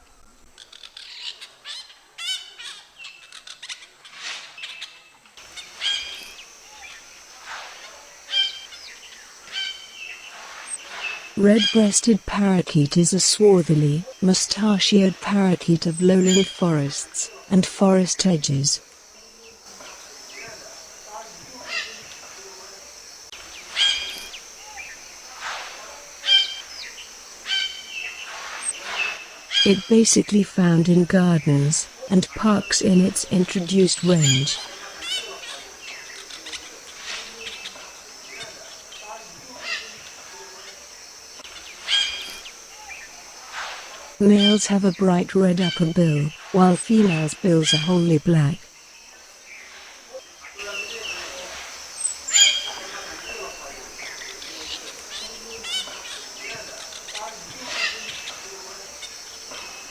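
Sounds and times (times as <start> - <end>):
insects hissing: 0.0 - 59.9
parakeets calling shrilly: 0.5 - 18.9, 21.5 - 22.4, 23.3 - 48.7, 49.4 - 59.9.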